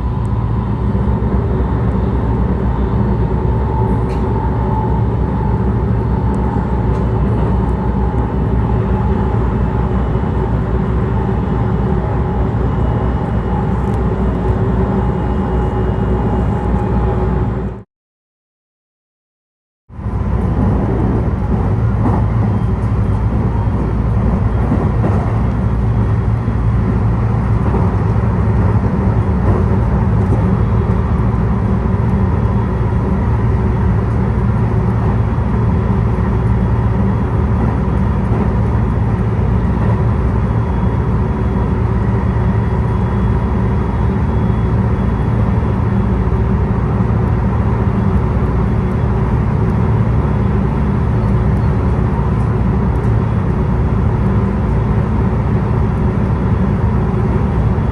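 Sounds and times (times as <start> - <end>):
road vehicle rumble: 0.0 - 17.8, 19.9 - 57.9.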